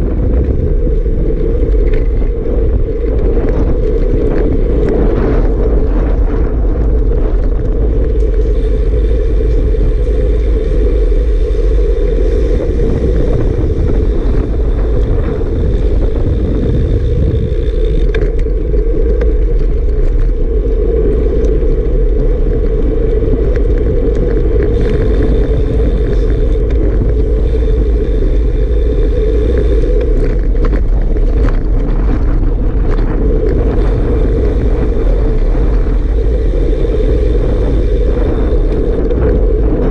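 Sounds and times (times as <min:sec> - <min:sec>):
vehicle rumble: 0:00.0 - 0:39.9
wind buffeting microphone: 0:00.0 - 0:39.9.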